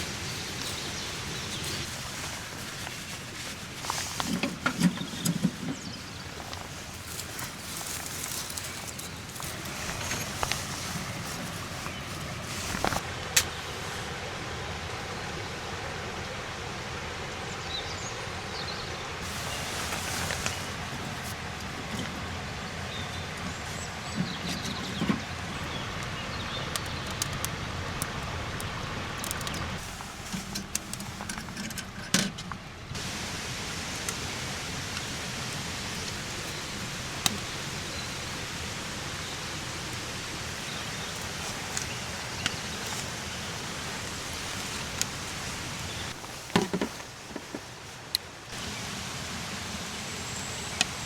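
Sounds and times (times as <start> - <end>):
rushing water: 0.0 - 51.0.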